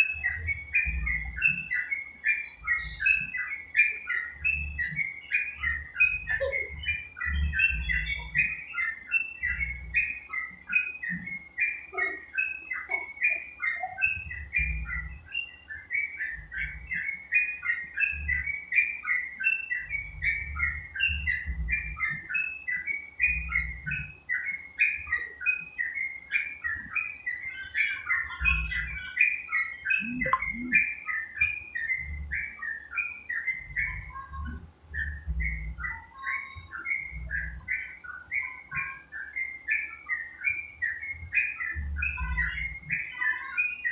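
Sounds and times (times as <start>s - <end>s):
bird singing bubbly chirps: 0.0s - 43.9s.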